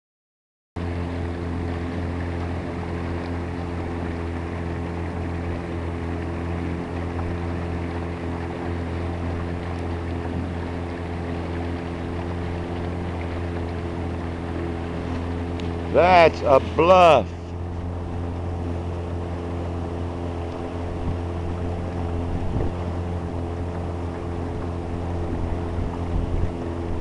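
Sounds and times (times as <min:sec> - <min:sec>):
outboard motor running: 0:00.8 - 0:27.0.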